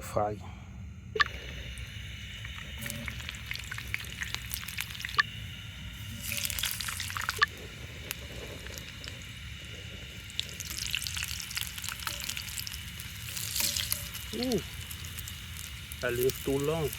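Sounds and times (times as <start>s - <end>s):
food sizzling in oil: 1.2s - 16.9s
oil pops and crackles: 1.2s - 16.9s.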